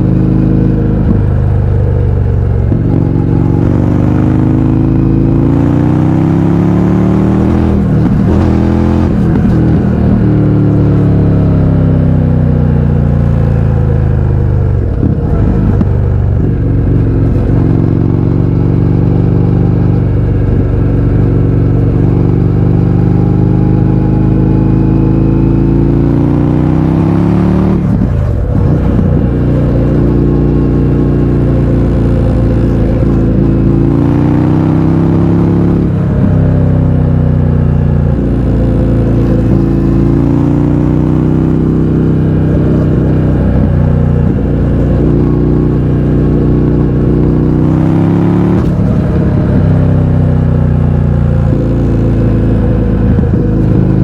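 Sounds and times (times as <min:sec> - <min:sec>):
loud motorcycle engine running: 0:00.0 - 0:54.0.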